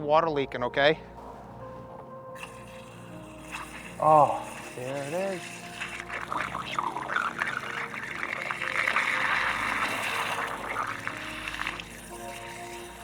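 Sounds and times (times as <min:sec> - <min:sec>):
water running and splashing: 0:02.4 - 0:13.0.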